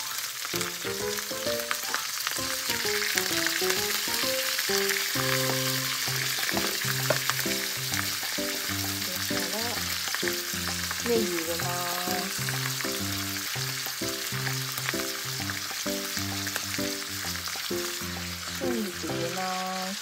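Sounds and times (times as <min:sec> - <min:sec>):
background music: 0:00.0 - 0:19.8
food sizzling in a skillet: 0:00.0 - 0:20.0.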